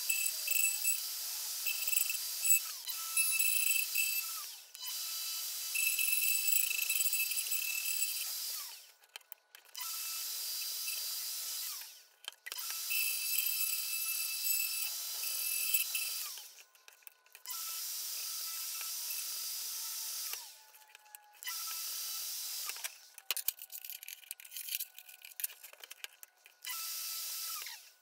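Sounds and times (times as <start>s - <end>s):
router cutting wood: 0.0s - 9.0s, 9.7s - 16.7s, 17.4s - 22.9s, 26.6s - 28.0s.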